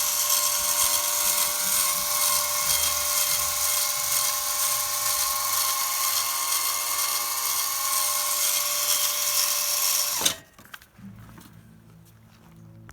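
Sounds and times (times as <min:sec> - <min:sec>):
electric drill whining: 0:00.0 - 0:10.4.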